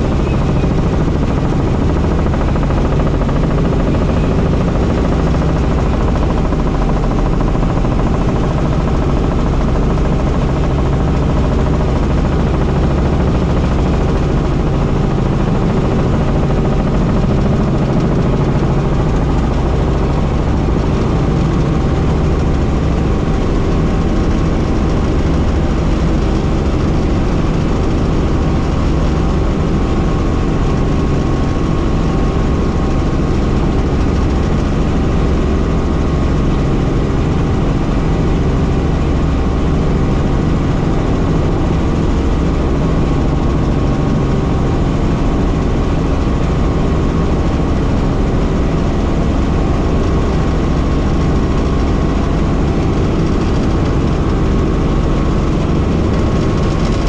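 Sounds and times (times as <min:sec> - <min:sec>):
helicopter blades chopping: 0:00.0 - 0:57.0
helicopter engine and rotor drone: 0:00.0 - 0:57.0.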